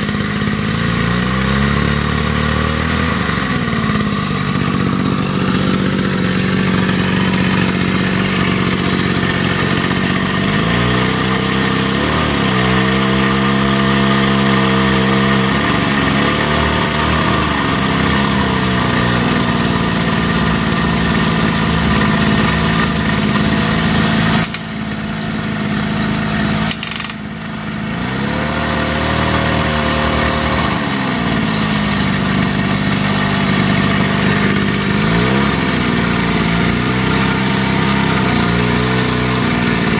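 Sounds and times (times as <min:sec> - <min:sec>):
hydraulic drive whine: 0:00.0 - 0:39.9.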